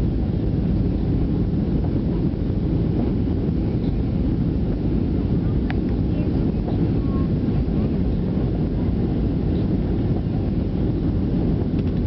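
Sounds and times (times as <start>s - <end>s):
jet engines rumbling: 0.0s - 12.0s
rushing air: 0.0s - 12.0s.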